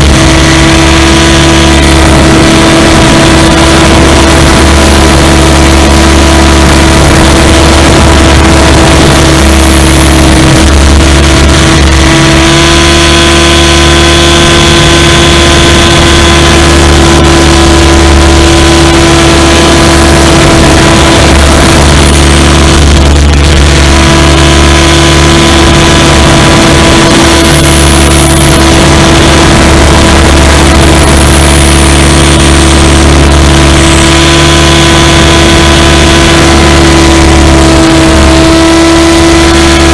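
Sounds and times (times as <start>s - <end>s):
electric motor whine: 0.0s - 39.9s
rotor wash rushing: 0.0s - 39.9s.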